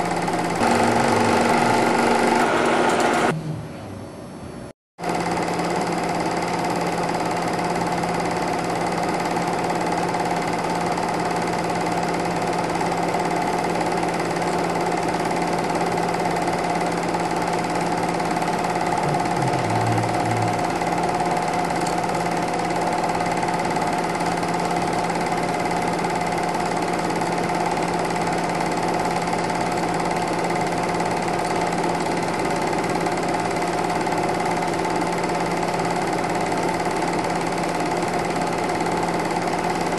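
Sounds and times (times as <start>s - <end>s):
film projector whirring: 0.0s - 3.4s, 5.0s - 39.9s.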